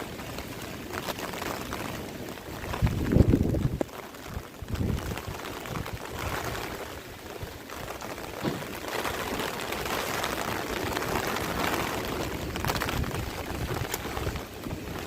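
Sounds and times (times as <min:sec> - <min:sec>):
rushing water hiss: 0:00.0 - 0:15.0.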